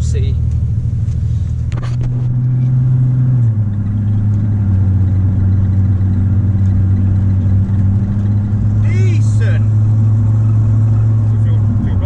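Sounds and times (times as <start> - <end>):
car engine pulling: 0.0 - 12.0.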